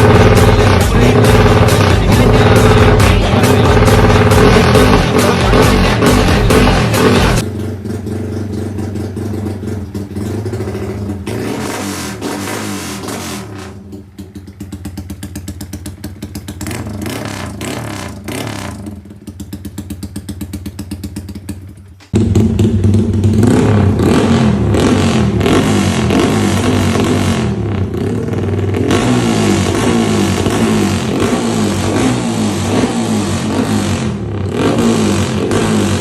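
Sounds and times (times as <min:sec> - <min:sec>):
motorcycle engine revving: 0:00.0 - 0:36.0
motorcycle engine running: 0:00.0 - 0:36.0.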